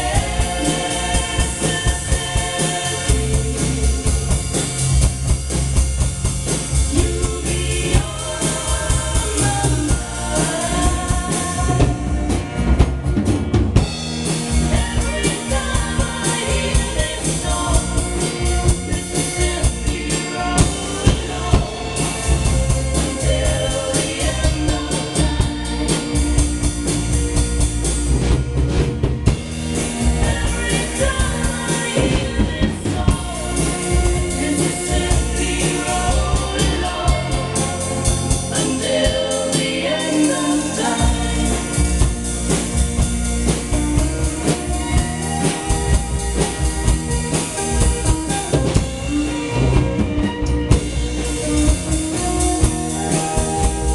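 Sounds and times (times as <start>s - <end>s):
recorded pop song with singing: 0.0s - 5.2s, 6.5s - 12.6s, 14.3s - 27.3s, 29.8s - 49.6s, 51.9s - 53.9s
drum kit playing: 0.0s - 53.9s.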